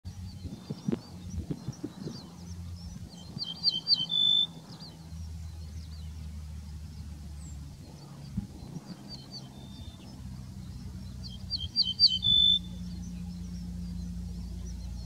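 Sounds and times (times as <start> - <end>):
bunting singing: 0.1 - 15.0
faint high chirps: 0.1 - 15.0.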